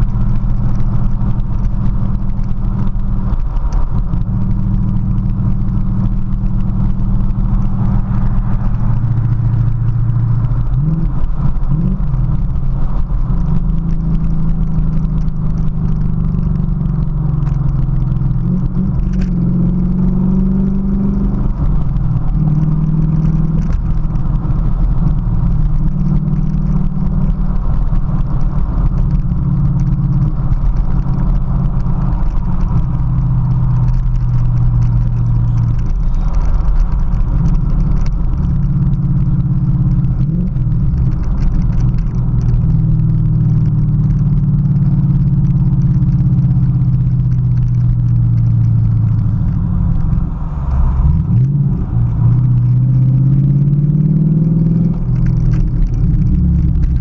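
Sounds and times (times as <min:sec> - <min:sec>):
car exhaust drone in cabin: 0:00.0 - 0:57.0.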